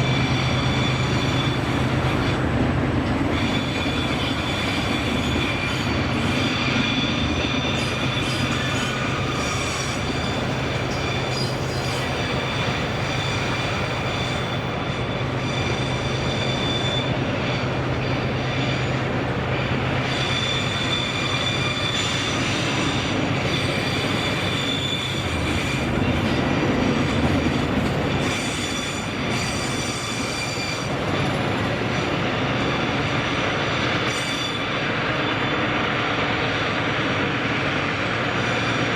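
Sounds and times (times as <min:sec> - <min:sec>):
freight train rumbling past: 0:00.0 - 0:38.9
train wheels squealing: 0:00.0 - 0:38.9.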